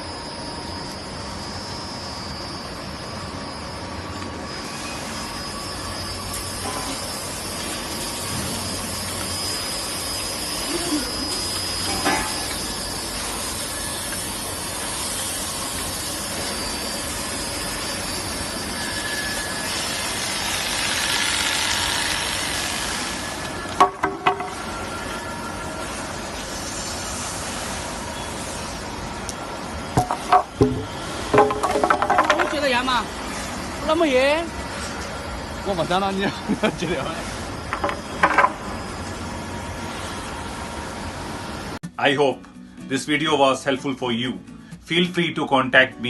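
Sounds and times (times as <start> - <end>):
sanding machine hissing and whining: 0.0 - 32.0, 32.6 - 41.8.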